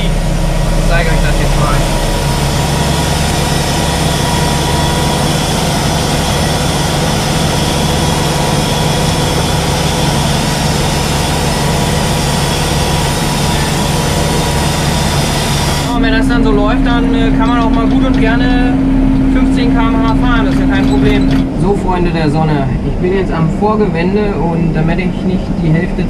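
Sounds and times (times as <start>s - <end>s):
tractor engine at high revs: 0.0s - 23.0s.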